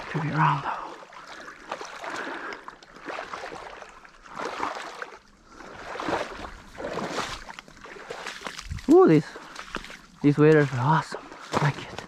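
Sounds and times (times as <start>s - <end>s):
water swishing around waders: 0.0s - 12.0s.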